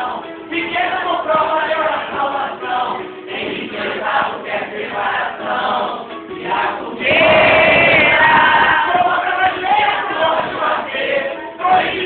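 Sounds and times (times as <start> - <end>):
group of voices singing: 0.0 - 12.0
music: 0.0 - 12.0.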